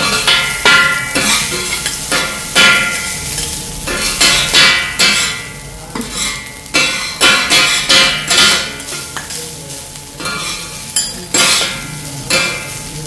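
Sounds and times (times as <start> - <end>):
metal spatula clanking on griddle: 0.0 - 9.4, 10.2 - 13.0.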